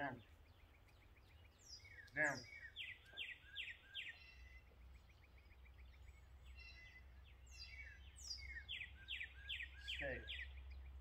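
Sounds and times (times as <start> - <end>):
bird chirps and calls: 0.0 - 11.0.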